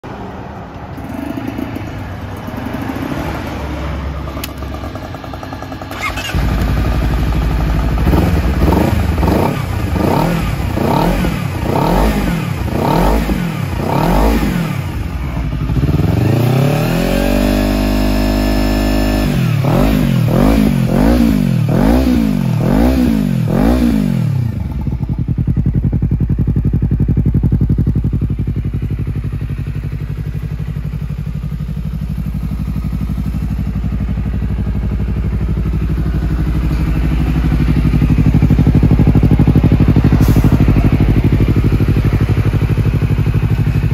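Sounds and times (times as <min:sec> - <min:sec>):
motorcycle engine revving: 0:00.9 - 0:43.9.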